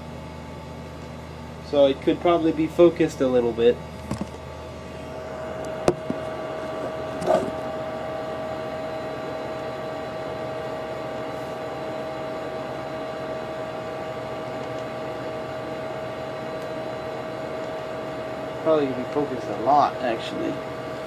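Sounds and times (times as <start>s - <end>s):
cooling fans whirring hum: 0.0s - 21.0s.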